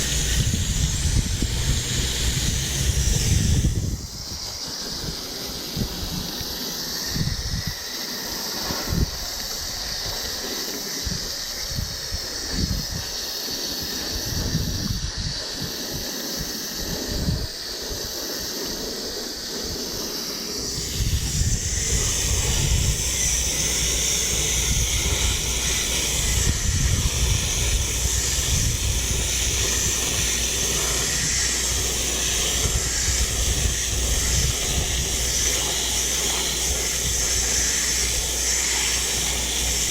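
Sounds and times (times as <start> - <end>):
hose spraying on metal coil: 0.0 - 39.9.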